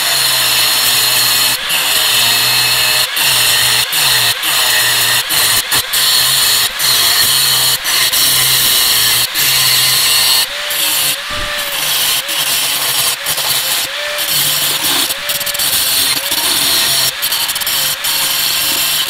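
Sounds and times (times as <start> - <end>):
angle grinder cutting steel: 0.0 - 19.0.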